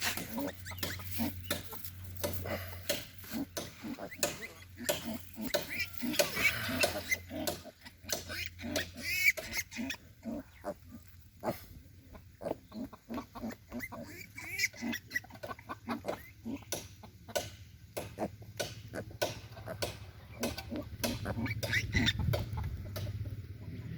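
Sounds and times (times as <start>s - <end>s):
piglets squealing and grunting: 0.0s - 17.4s, 18.0s - 22.8s
steady low hum: 0.0s - 23.9s.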